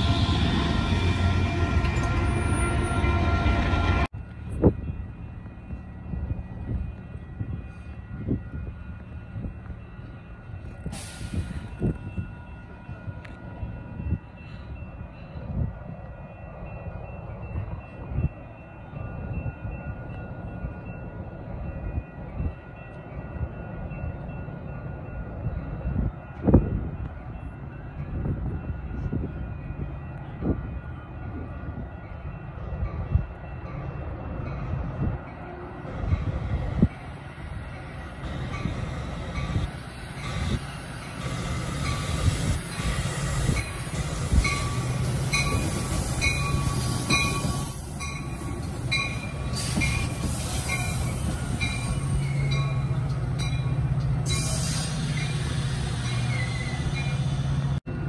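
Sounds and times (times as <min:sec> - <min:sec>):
distant train approaching: 0:00.0 - 0:58.0
wind gusting against microphone: 0:10.3 - 0:58.0.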